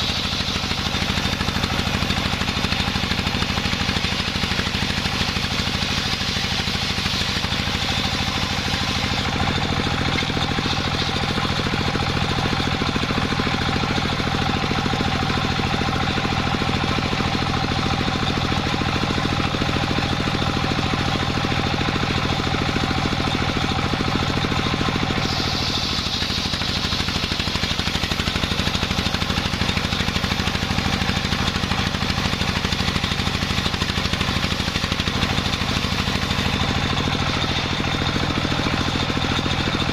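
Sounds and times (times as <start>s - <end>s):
sawmill engine pulsing: 0.0s - 39.9s.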